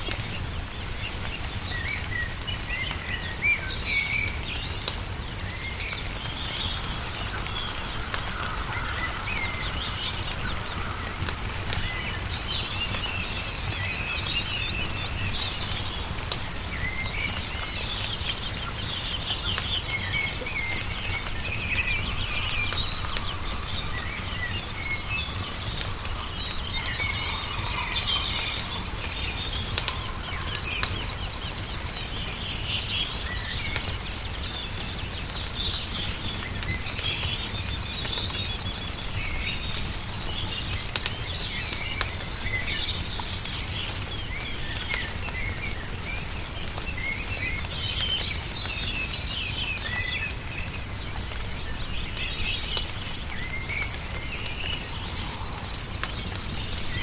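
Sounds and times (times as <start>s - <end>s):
low background noise: 0.0s - 57.0s
songbirds chirping and trilling: 0.0s - 57.0s
wood fire crackling: 0.0s - 57.0s.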